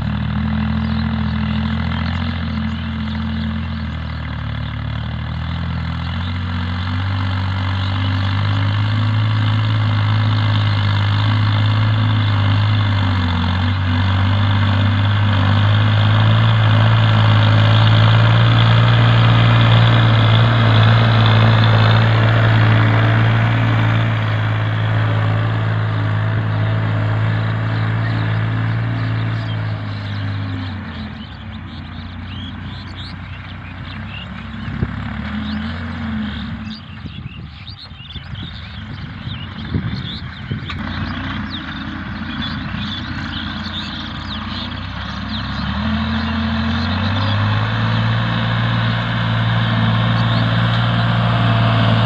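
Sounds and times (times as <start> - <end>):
tractor diesel engine droning: 0.0 - 52.0.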